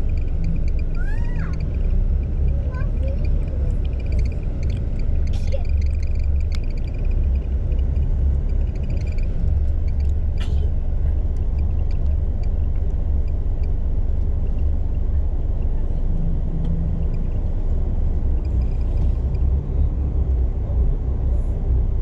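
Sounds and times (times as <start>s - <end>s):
coach engine rumble from cabin: 0.0s - 22.0s
interior clicks and squeaky rattles: 0.0s - 22.0s.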